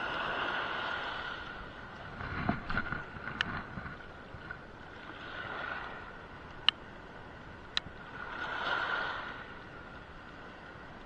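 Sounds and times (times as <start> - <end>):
water lapping against boat hull: 0.0 - 11.0
wind: 0.0 - 11.0.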